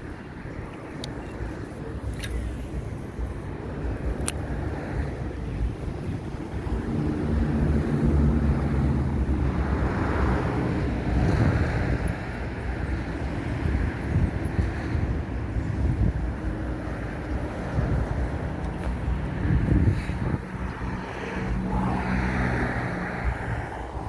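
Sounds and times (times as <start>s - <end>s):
vehicle engine hum: 0.0s - 24.0s
wind buffeting microphone: 0.0s - 24.0s.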